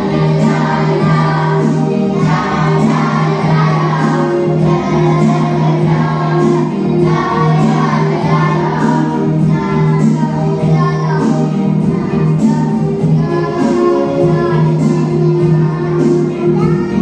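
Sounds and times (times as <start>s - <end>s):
children singing together: 0.0s - 17.0s
electronic keyboard: 0.0s - 17.0s.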